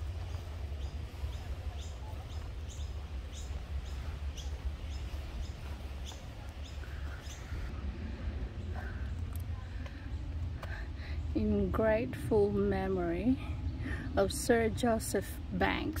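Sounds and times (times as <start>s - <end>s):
low rumble: 0.0s - 16.0s
small birds chirping: 0.0s - 16.0s.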